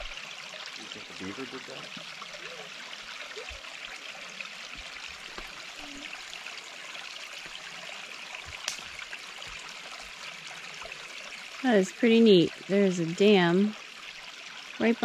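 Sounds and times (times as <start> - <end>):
water trickling in stream: 0.0 - 15.0.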